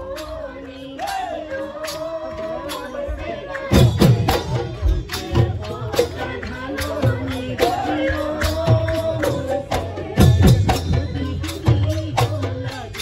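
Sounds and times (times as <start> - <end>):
drum struck in lively rhythm: 0.0 - 13.0.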